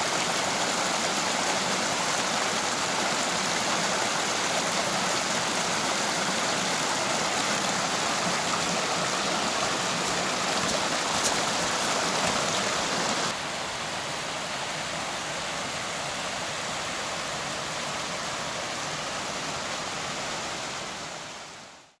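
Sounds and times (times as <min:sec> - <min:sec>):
mountain stream running: 0:00.0 - 0:22.0.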